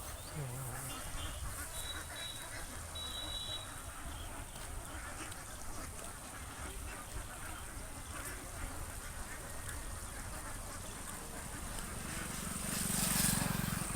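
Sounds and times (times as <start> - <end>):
ducks quacking: 0.0 - 11.8.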